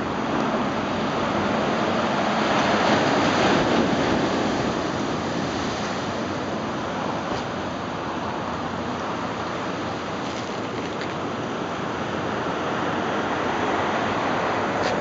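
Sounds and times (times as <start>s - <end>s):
wave breaking and washing in: 0.0s - 15.0s.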